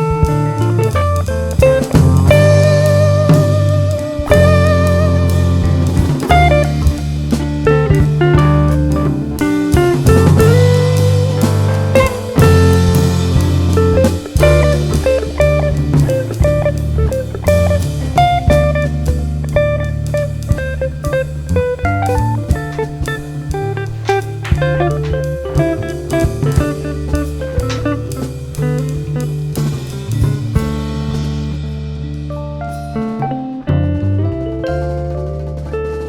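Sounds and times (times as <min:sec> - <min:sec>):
drum kit beat: 0:00.0 - 0:31.8
sustained bass notes: 0:00.0 - 0:34.4
plucked guitar: 0:00.0 - 0:36.0.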